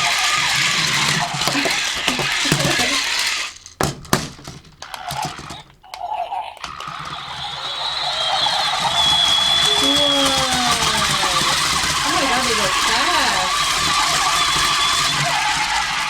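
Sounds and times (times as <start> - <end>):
plastic toys knocking and clattering: 0.0 - 16.0
toy motor whirring: 0.0 - 16.0.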